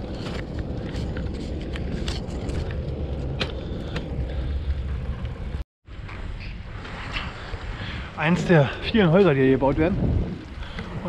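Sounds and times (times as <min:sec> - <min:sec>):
bike ticks and rattles: 0:00.0 - 0:11.0
wind and tyre rumble: 0:00.0 - 0:11.0.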